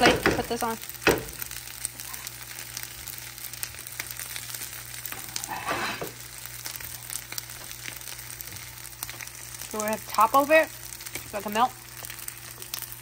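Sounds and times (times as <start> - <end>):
rice sizzling in frying pan: 0.0 - 13.0
small crackles: 0.0 - 13.0.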